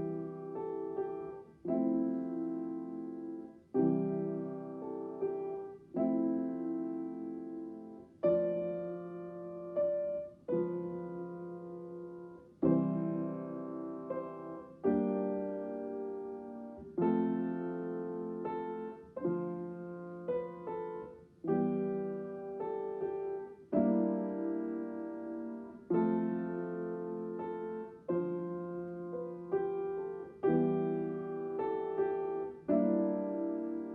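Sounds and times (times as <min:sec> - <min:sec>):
slow piano chords: 0:00.0 - 0:33.9.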